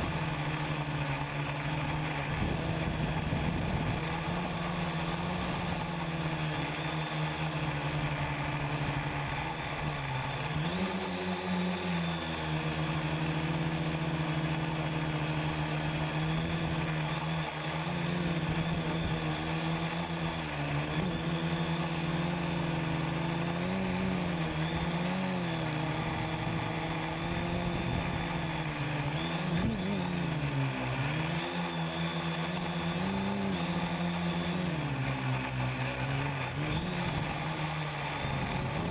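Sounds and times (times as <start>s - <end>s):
quadcopter motors whirring: 0.0s - 38.9s.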